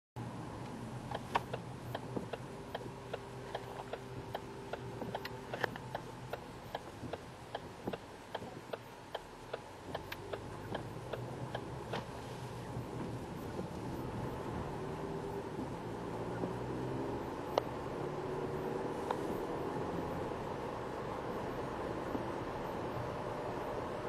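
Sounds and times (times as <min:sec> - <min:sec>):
low steady hum: 0:00.2 - 0:24.0.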